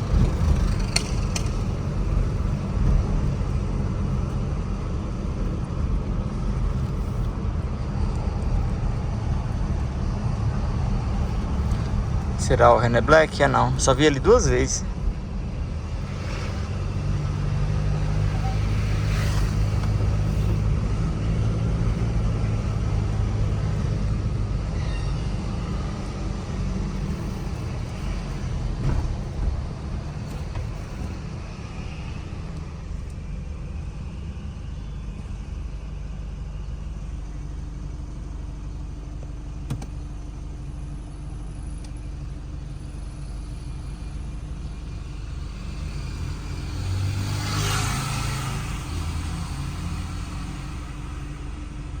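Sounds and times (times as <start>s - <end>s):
pickup engine and road rumble: 0.0s - 52.0s.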